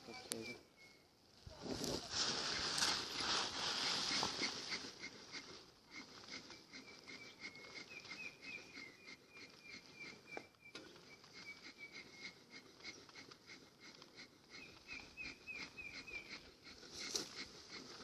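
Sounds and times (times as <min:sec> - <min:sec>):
small bird chirping: 0:00.0 - 0:01.2, 0:04.0 - 0:18.0.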